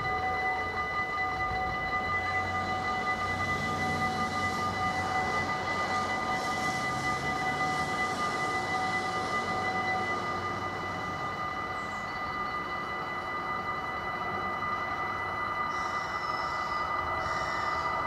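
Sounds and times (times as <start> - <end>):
level crossing warning bells: 0.0 - 18.0.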